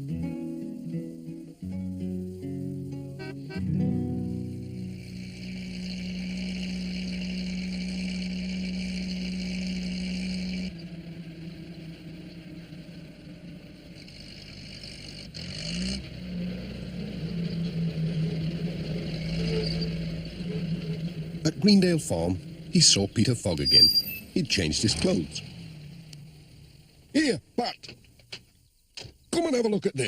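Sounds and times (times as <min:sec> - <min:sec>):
van engine humming: 0:00.0 - 0:30.0.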